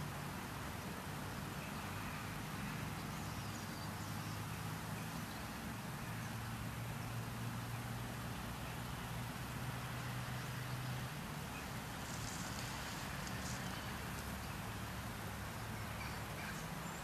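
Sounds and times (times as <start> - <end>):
distant traffic hum: 0.0 - 17.0
faint hiss: 0.0 - 17.0.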